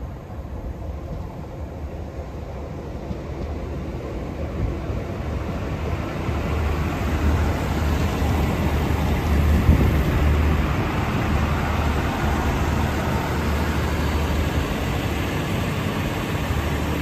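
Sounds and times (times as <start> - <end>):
train engine hum: 0.0 - 17.0
train wheels rumbling on rails: 0.0 - 17.0.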